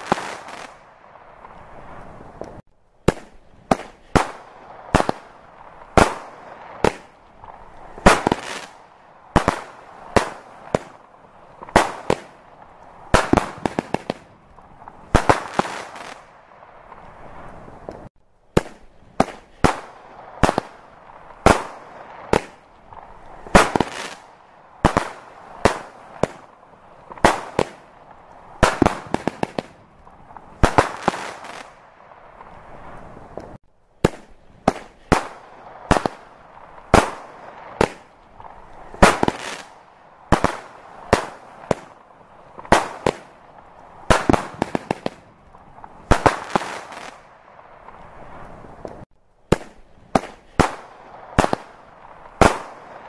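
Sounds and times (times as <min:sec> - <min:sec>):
crackling fireworks pops: 0:00.0 - 0:53.0
fireworks bangs: 0:00.0 - 0:53.0.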